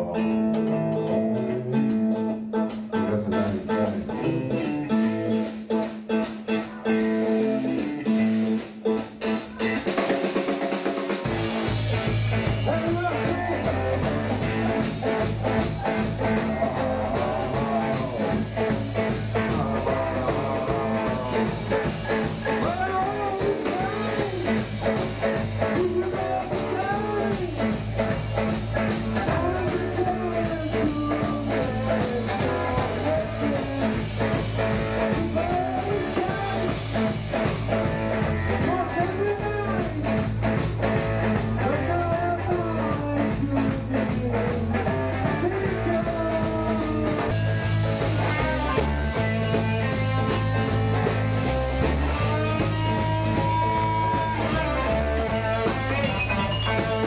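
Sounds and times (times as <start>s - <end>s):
blues-rock band playing: 0.0s - 57.0s
lead guitar line: 0.0s - 57.0s.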